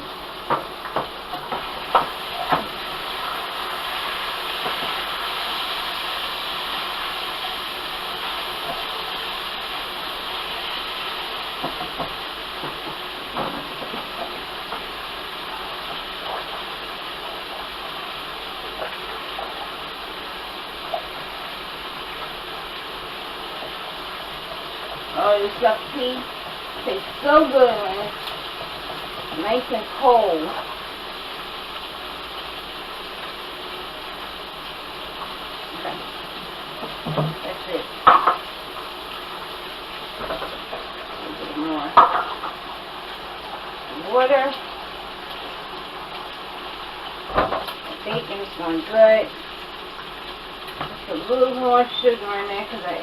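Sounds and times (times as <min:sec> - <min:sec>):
bacon sizzling in a frying pan: 0:00.0 - 0:53.0.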